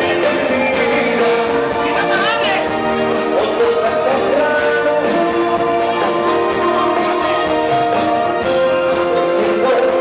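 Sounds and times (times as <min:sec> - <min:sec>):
music with long held notes: 0:00.0 - 0:10.0.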